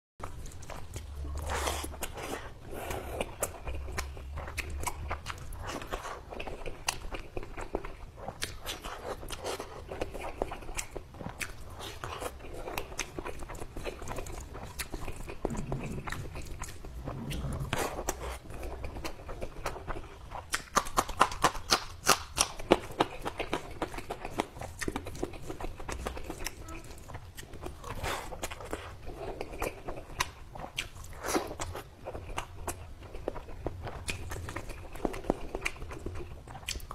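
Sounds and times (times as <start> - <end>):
wet chewing: 0.2 - 36.9.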